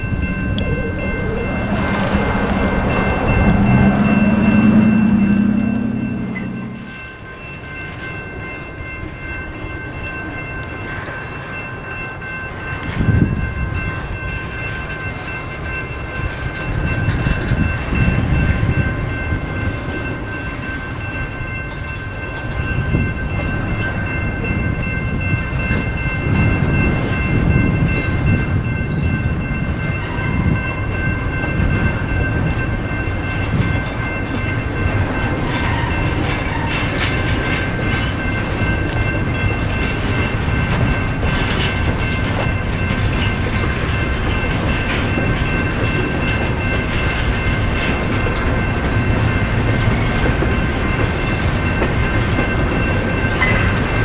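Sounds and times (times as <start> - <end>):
crossing bells ringing: 0.0 - 54.0
freight cars rumbling on rails: 0.0 - 54.0.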